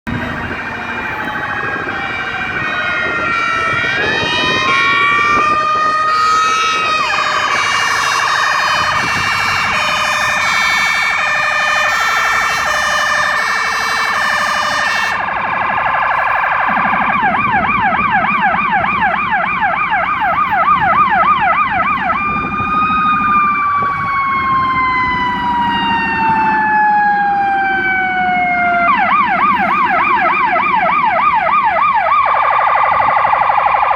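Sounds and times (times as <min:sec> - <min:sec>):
engine rumble: 0:00.0 - 0:33.9
fire engine sirens: 0:00.0 - 0:33.9.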